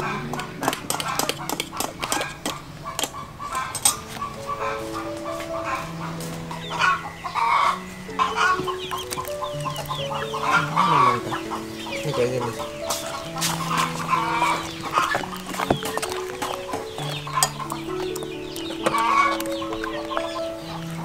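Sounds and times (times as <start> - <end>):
chickens clucking: 0.0 - 21.0
music with long held notes: 3.8 - 21.0.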